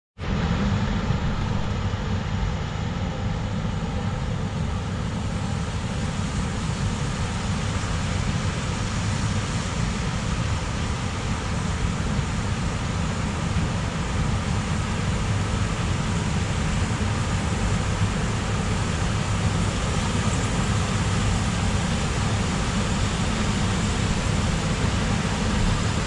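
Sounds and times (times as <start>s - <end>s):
combine harvester engine drone: 0.2s - 26.0s.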